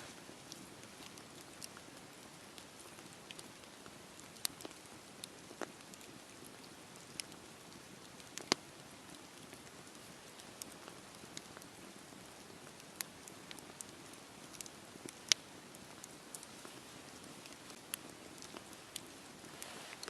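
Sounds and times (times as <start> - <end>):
burning wood crackling: 0.0 - 20.0
campfire burning: 0.0 - 20.0.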